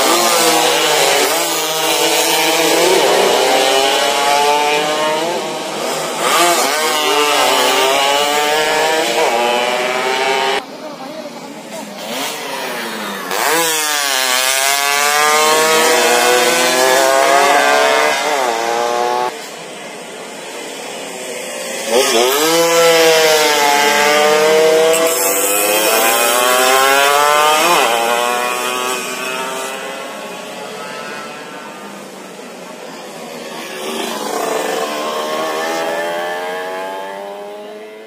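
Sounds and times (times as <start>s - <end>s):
motorcycle engine at full throttle: 0.0s - 38.0s.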